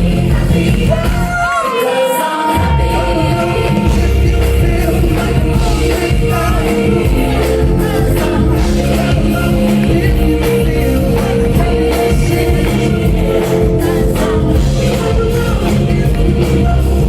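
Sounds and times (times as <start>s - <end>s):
live pop band: 0.0s - 17.0s
person singing: 0.0s - 17.0s.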